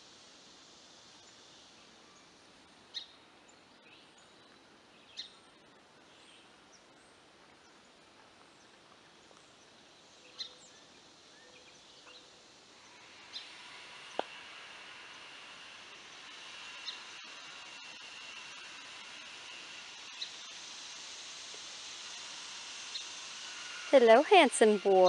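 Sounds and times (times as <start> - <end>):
faint outdoor hiss: 0.0 - 25.0.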